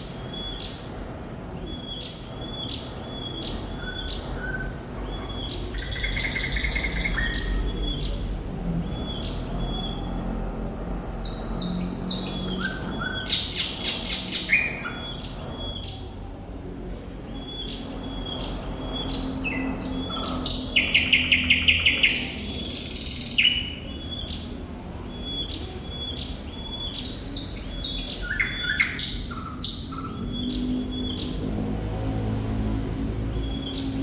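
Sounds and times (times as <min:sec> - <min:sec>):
thrush nightingale singing: 0:01.6 - 0:10.4, 0:11.0 - 0:16.1, 0:17.3 - 0:31.4.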